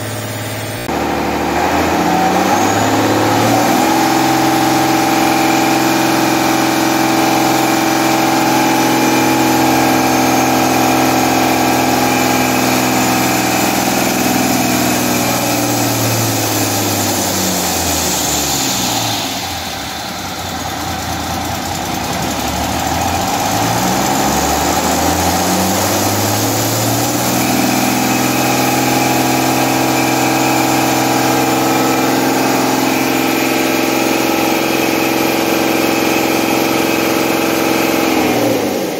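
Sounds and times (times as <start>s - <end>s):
diesel engine at high revs: 0.0s - 38.9s.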